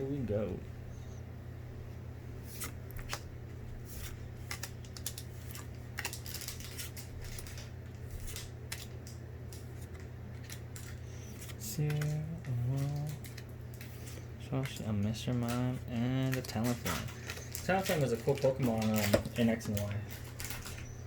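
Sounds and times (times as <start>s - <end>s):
foil wrapper crinkling: 3.9s - 21.0s.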